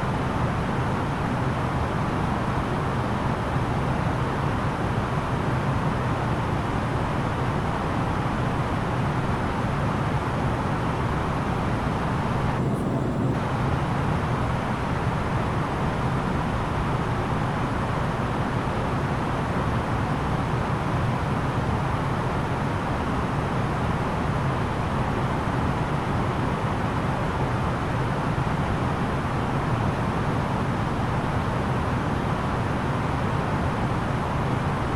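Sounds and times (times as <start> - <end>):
low drone of jet engines: 0.0 - 34.9.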